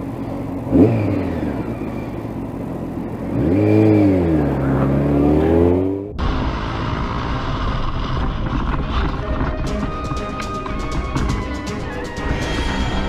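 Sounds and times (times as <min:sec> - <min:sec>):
motorcycle engine revving: 0:00.0 - 0:13.0
road and wind rumble: 0:00.0 - 0:13.0.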